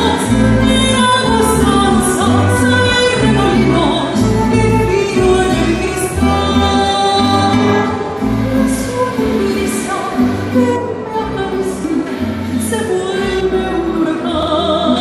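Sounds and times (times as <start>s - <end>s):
live band playing: 0.0s - 15.0s
woman singing: 0.0s - 15.0s.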